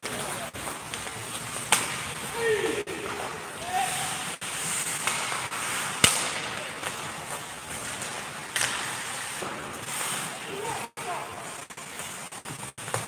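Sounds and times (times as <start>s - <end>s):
echoing rink ambience: 0.0s - 13.0s
hockey stick hitting puck: 0.0s - 13.0s
skates hissing on ice: 0.0s - 13.0s.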